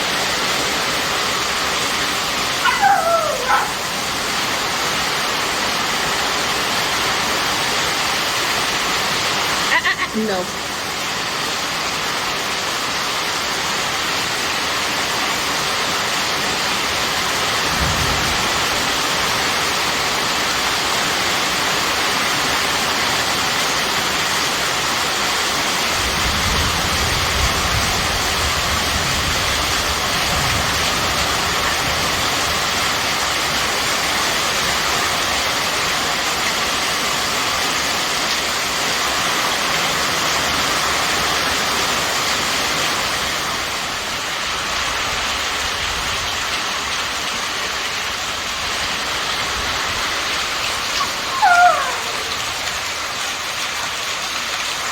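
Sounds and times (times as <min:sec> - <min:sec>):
heavy rain hiss: 0:00.0 - 0:54.9.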